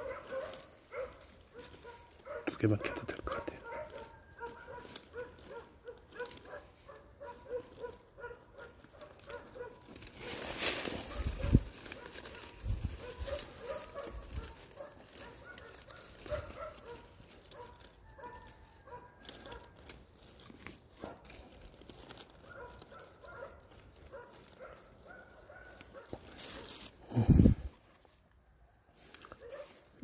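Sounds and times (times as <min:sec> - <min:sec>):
rustling and scraping in soil and leaves: 0:00.0 - 0:30.0.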